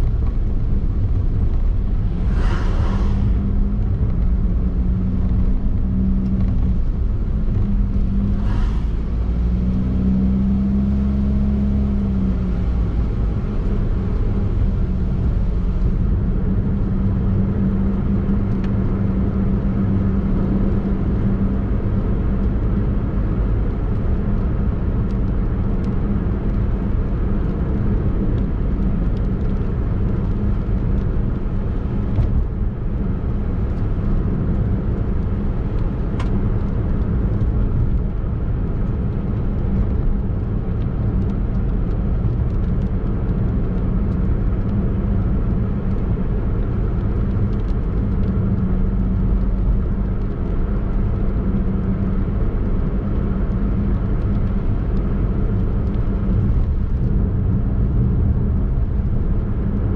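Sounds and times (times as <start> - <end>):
car driving drone: 0.0 - 59.9.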